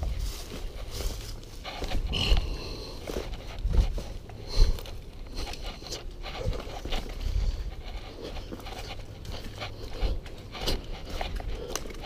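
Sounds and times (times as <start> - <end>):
brush rustling: 0.0 - 12.0
footsteps crunching dry grass: 0.0 - 12.0.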